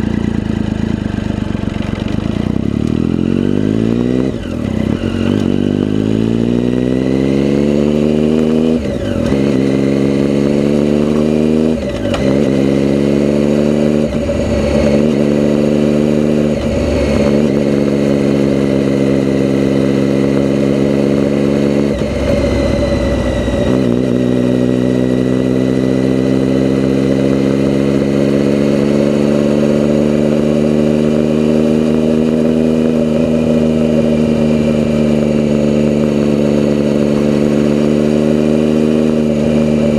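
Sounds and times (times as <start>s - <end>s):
vehicle engine shifting gears: 0.0s - 39.9s.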